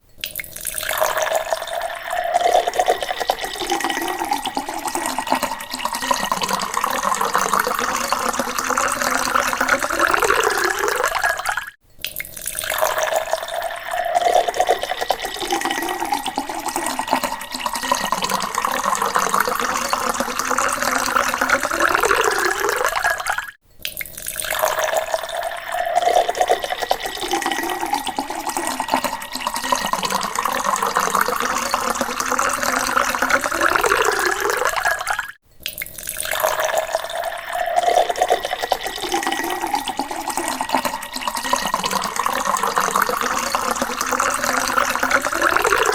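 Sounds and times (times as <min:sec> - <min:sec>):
water pouring into a glass: 0:00.1 - 0:45.9.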